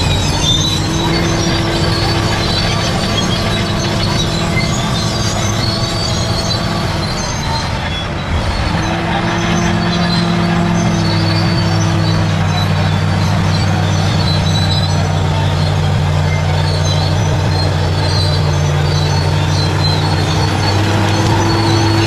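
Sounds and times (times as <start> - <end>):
diesel engine under load: 0.0 - 22.0
steel tracks squeaking: 0.0 - 22.0.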